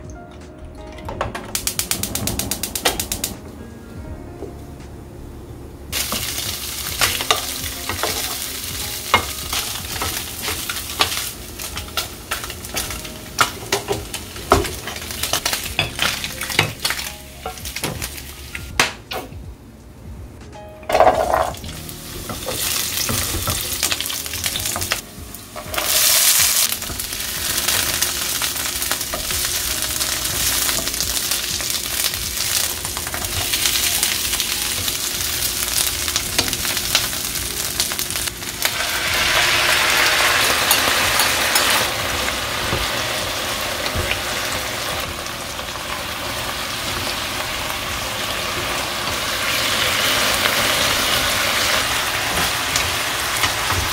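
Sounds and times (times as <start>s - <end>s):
food sizzling in a pan: 5.9s - 18.7s, 20.9s - 53.9s.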